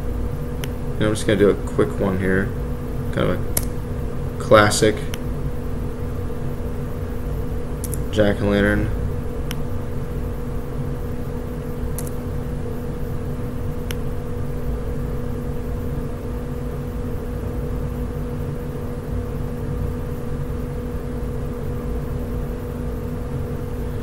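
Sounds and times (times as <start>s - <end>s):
low rumbling hum with steady tones: 0.0s - 24.0s.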